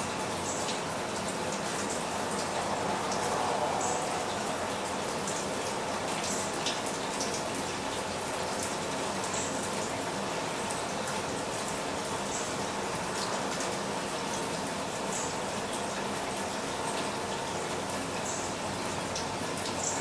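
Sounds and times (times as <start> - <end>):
drips ticking: 0.0 - 20.0
steady rain falling: 0.0 - 20.0
water splashing down rain chain: 0.0 - 20.0.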